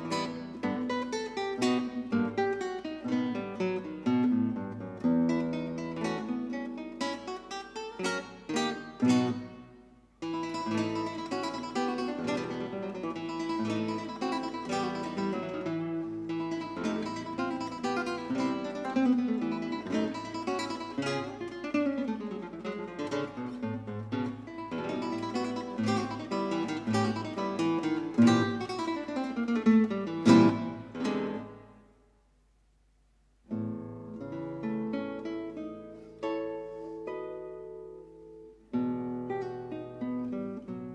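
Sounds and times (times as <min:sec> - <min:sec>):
acoustic guitar music: 0:00.0 - 0:32.2, 0:33.4 - 0:40.9.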